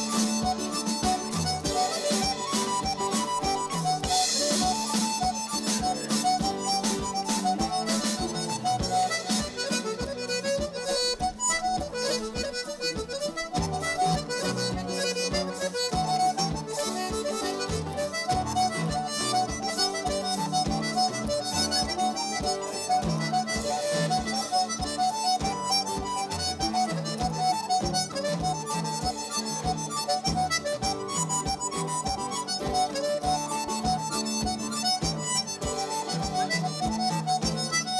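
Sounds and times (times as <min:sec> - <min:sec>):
accordion playing fast melody: 0:00.0 - 0:37.9
drum kit steady beat: 0:00.0 - 0:37.9
guitar: 0:00.0 - 0:37.9.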